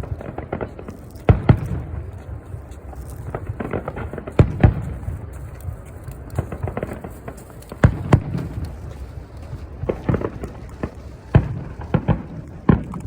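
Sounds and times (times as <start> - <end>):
fireworks booming: 0.0 - 13.0
fireworks crackling pops: 0.0 - 13.0.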